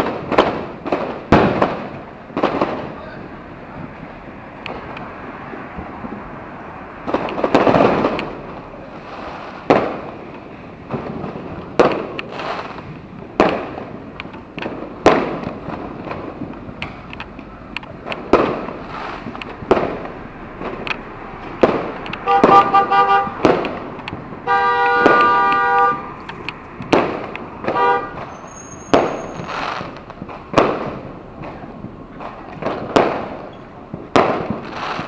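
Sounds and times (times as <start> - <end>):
fireworks bangs echoing: 0.0 - 35.0.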